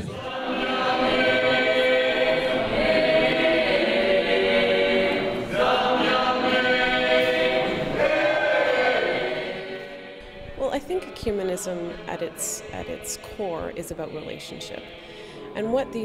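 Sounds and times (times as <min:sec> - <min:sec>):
choir singing unaccompanied: 0:00.0 - 0:16.0.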